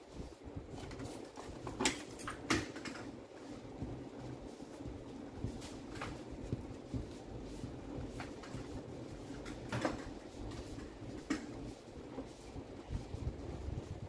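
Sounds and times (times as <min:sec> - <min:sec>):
low steady background hum: 0:00.0 - 0:14.0.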